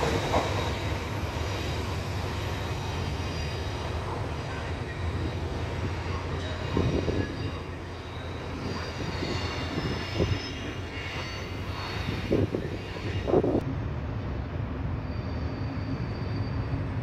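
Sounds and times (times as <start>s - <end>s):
faint wheel squeal: 0.0s - 13.6s, 15.0s - 17.0s
electric train low rumble: 0.0s - 17.0s.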